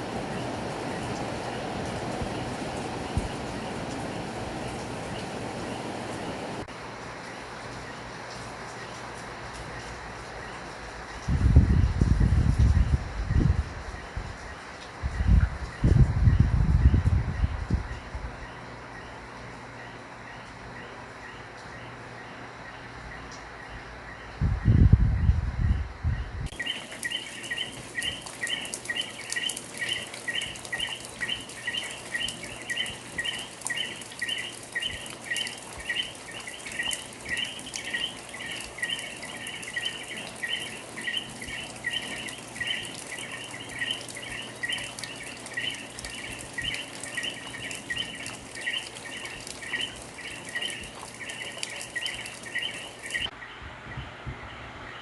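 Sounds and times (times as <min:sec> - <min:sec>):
rain pattering: 0:00.0 - 0:24.2, 0:26.4 - 0:53.4.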